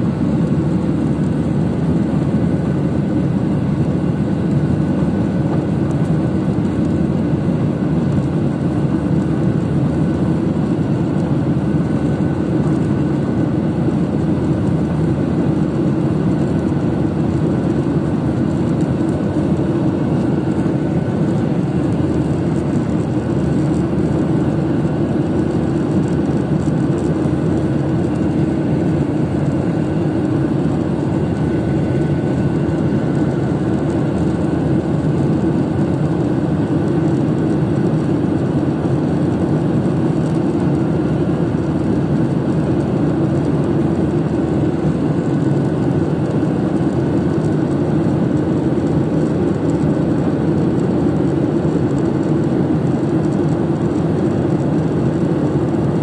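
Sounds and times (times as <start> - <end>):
airliner cabin engine noise: 0.0 - 56.0
faint steady whine: 0.0 - 56.0.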